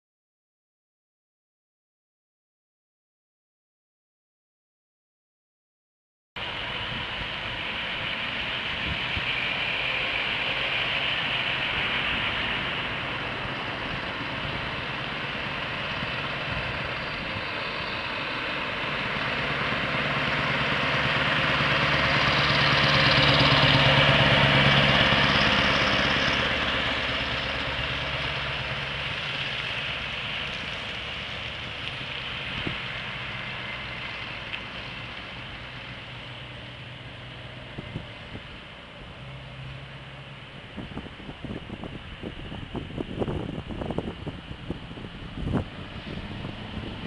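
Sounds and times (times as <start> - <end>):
truck driving past: 6.4 - 47.0.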